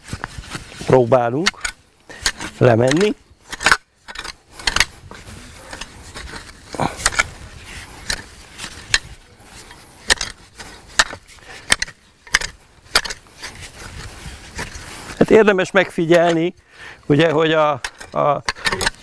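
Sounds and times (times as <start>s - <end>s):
fork tines clicking and scraping: 0.0s - 16.5s, 17.1s - 19.0s
straw rustling: 0.0s - 19.0s.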